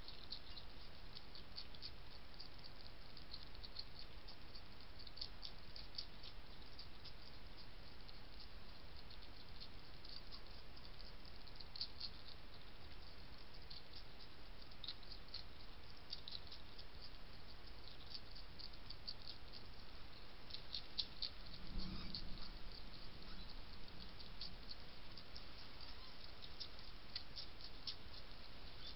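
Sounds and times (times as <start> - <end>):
hedgehog crunching dry biscuits: 0.1 - 28.9.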